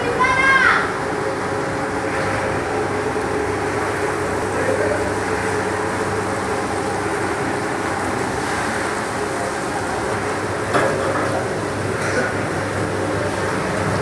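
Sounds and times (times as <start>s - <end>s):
production line machinery drone: 0.0s - 14.0s.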